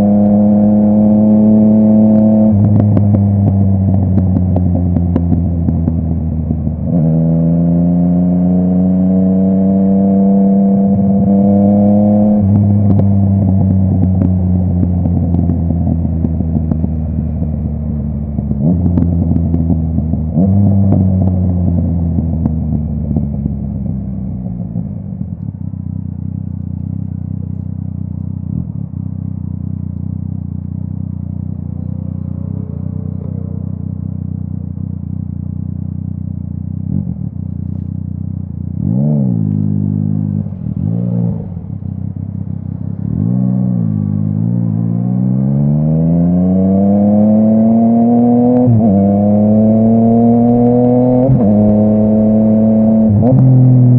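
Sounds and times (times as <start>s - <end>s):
motorcycle throttle blips: 0.0s - 7.5s, 8.6s - 53.9s
motorcycle engine revving: 0.0s - 53.9s.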